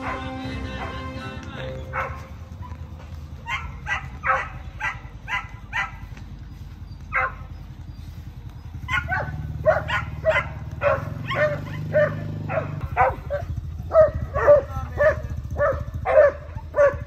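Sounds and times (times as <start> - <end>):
dog barking: 0.0 - 1.1, 1.8 - 6.2, 7.1 - 7.6, 8.8 - 17.0.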